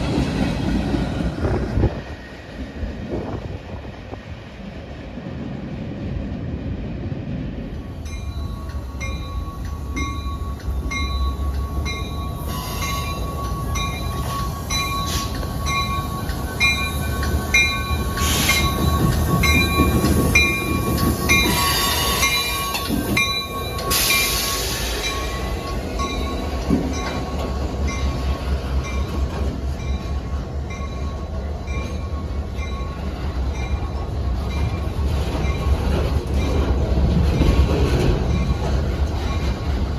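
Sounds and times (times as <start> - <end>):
train rumble on rails: 0.0 - 39.9.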